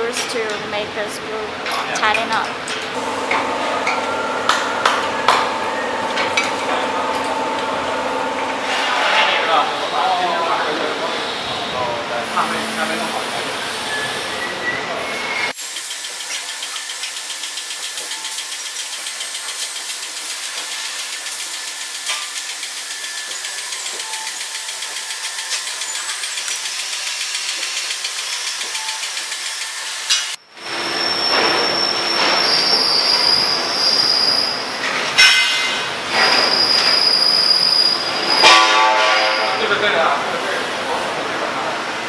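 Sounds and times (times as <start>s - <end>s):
pulsing mechanical noise: 0.3s - 42.0s
rough mechanical noise with squeal: 2.8s - 41.8s.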